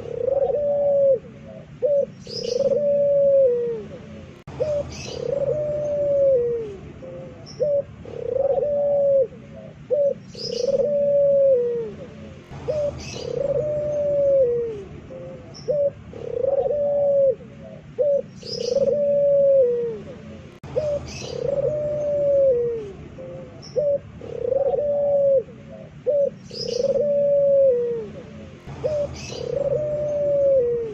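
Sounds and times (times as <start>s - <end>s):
dove cooing loudly: 0.0s - 30.9s.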